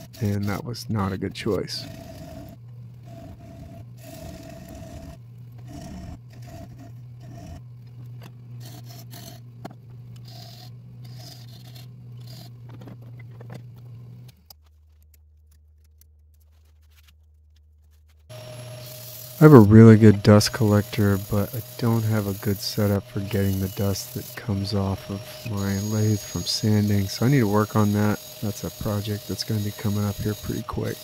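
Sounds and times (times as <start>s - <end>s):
wood lathe humming: 0.0s - 13.6s, 18.3s - 31.0s
turning tool scraping wood: 0.0s - 13.9s, 17.9s - 31.0s.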